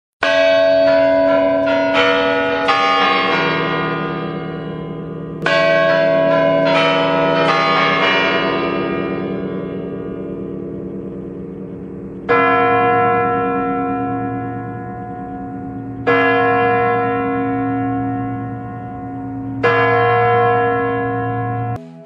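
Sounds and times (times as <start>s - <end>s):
bells ringing: 0.2s - 22.0s.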